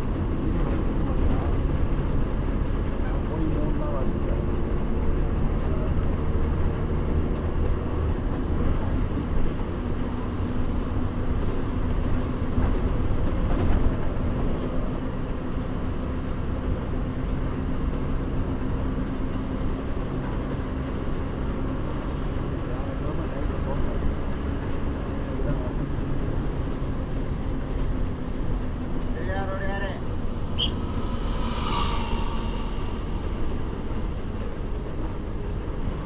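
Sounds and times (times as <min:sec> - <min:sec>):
bus engine hum: 0:00.0 - 0:36.0
road rumble: 0:00.0 - 0:36.0.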